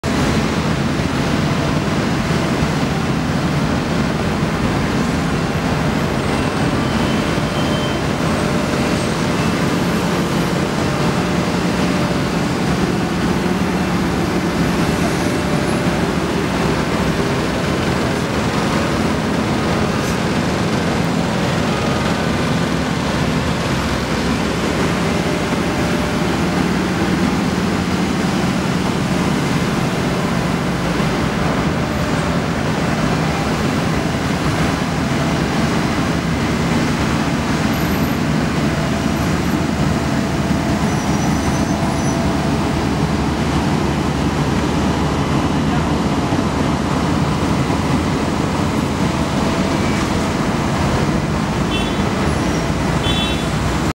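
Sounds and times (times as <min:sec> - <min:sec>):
diesel road roller droning: 0:00.0 - 0:53.9
passing traffic: 0:00.0 - 0:53.9.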